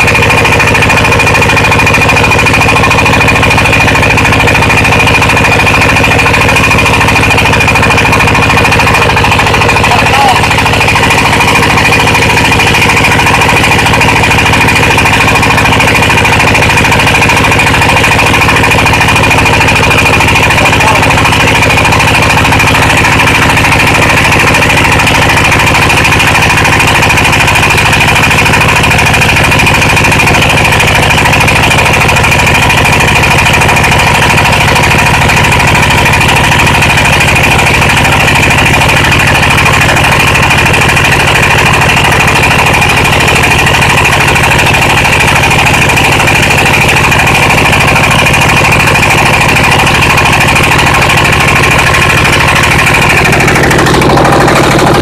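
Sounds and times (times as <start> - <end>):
machine low mechanical drone: 0.0 - 55.0.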